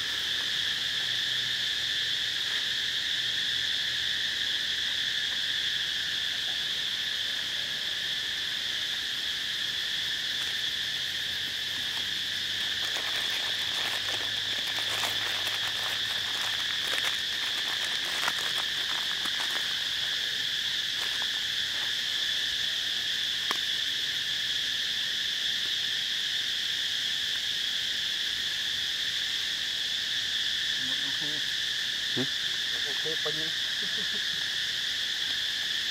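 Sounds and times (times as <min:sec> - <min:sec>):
insects droning: 0:00.0 - 0:35.9.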